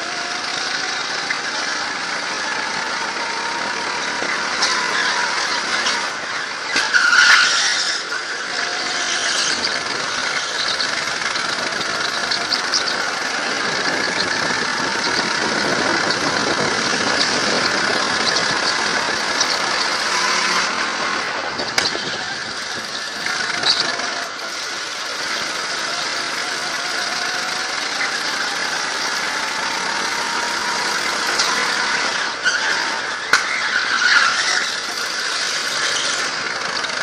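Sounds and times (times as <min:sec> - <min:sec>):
go-kart engine racing: 0:00.0 - 0:37.0
tyre squeal: 0:00.0 - 0:37.0.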